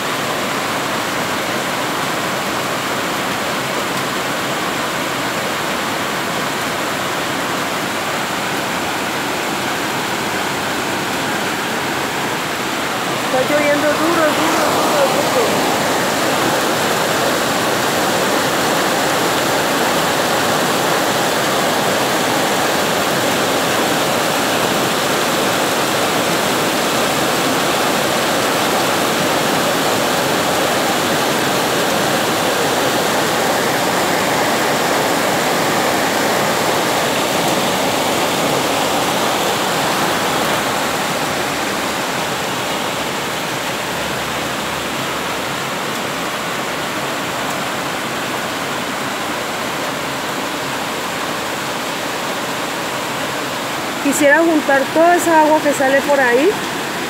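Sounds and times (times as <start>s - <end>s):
heavy rain on a corrugated roof: 0.0s - 57.0s.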